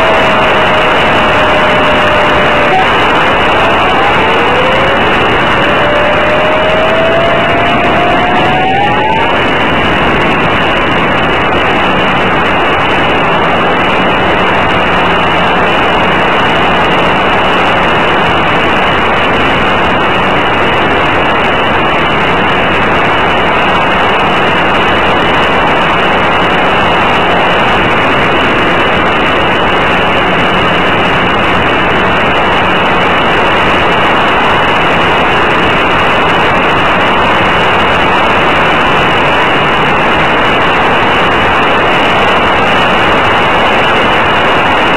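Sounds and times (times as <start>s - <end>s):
airflow and propeller rush: 0.0s - 44.9s.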